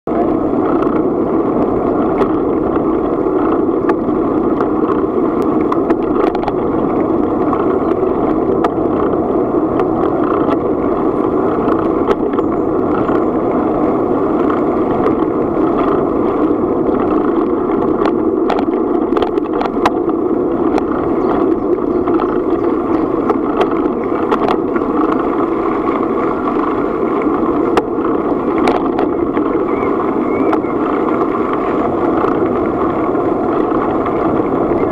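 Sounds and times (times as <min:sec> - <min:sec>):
bicycle tyres on gravel: 0:00.1 - 0:34.9
wind noise: 0:00.1 - 0:34.9
small clicks and rattles: 0:00.5 - 0:34.9.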